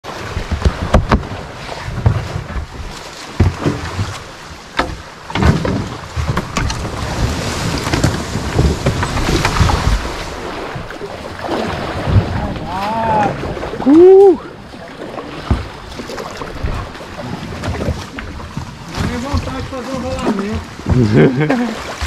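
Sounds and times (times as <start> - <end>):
water rushing and splashing: 0.0 - 22.0
kayak hull scraping on bank: 0.1 - 22.0.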